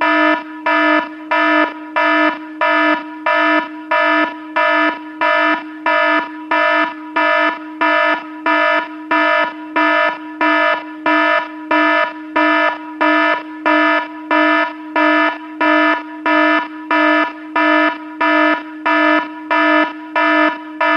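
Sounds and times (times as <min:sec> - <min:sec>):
electronic alarm beeping: 0:00.0 - 0:20.9.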